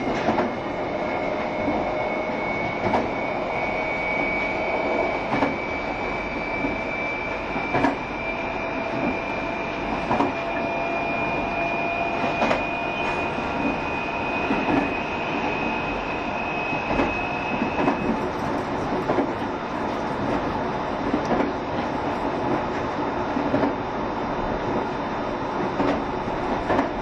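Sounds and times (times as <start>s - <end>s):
train rumbling at speed: 0.0s - 27.0s.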